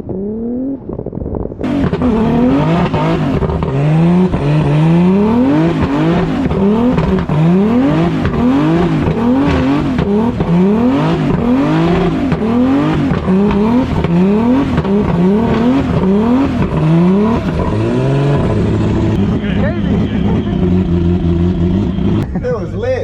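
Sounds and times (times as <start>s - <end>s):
car engine revving hard: 1.6s - 22.2s.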